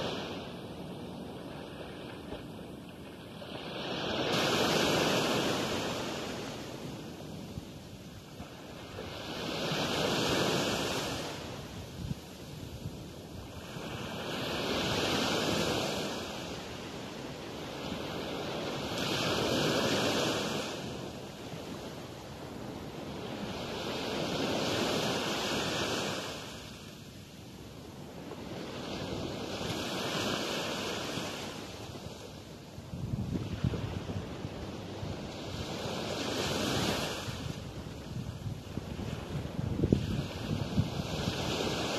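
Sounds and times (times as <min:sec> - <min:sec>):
small waves breaking on beach: 0:00.0 - 0:41.9.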